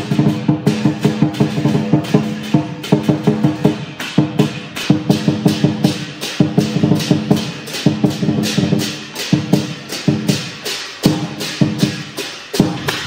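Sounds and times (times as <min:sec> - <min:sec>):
cymbals crashing: 0:00.0 - 0:13.0
drum beating rapid strokes: 0:00.0 - 0:13.0.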